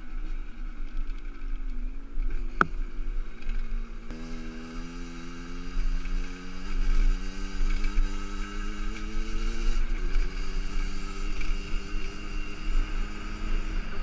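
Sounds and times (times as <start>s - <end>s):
motorcycle engine running: 0.4s - 14.0s.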